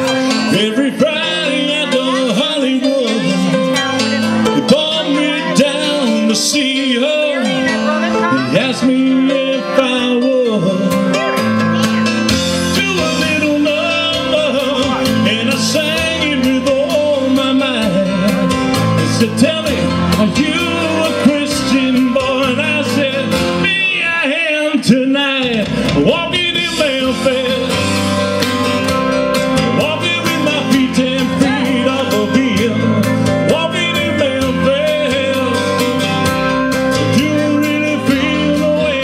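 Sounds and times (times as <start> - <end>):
electric keyboard playing: 0.0 - 39.0
man singing: 0.0 - 39.0.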